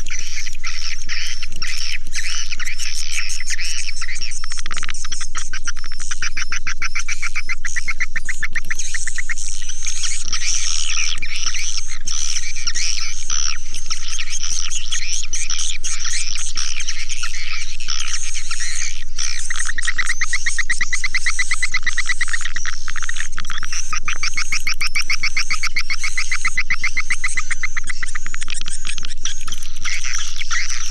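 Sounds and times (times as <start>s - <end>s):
swiftlets chirping and twittering: 0.0s - 30.9s.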